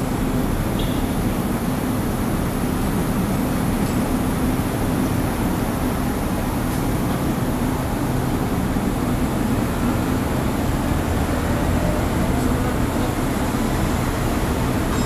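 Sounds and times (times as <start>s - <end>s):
crane engine and hydraulics droning: 0.0s - 15.0s.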